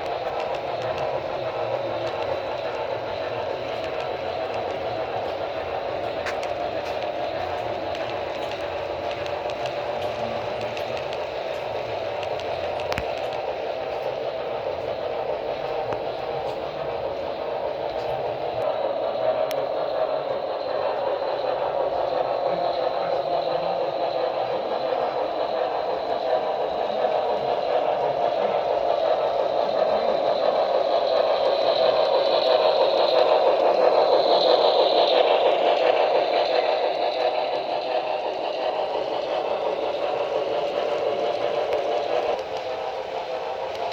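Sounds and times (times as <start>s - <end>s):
model train whirring and rattling: 0.0s - 43.9s.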